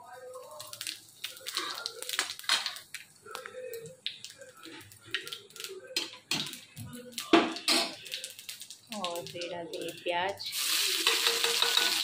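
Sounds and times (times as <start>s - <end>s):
seeds crackling in hot oil: 0.0s - 12.0s.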